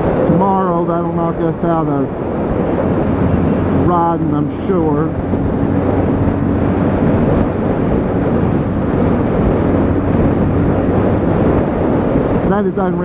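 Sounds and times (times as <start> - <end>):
motorcycle engine hum: 0.0 - 13.0
wind and road noise: 0.0 - 13.0.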